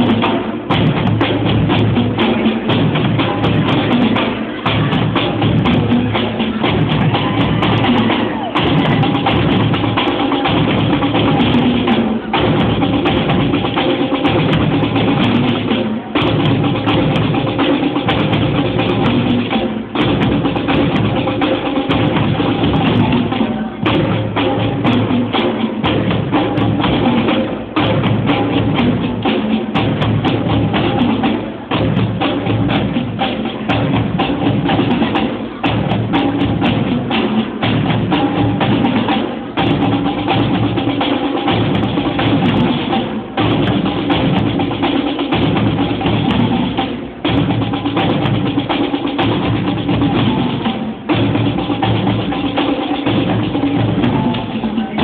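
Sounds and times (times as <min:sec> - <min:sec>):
marching drumline playing: 0:00.0 - 0:55.0.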